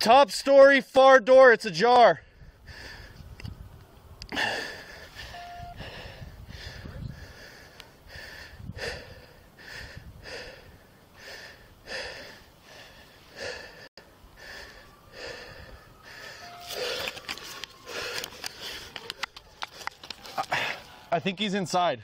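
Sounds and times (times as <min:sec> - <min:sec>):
man breathing hard: 0:02.2 - 0:03.4, 0:04.3 - 0:21.1.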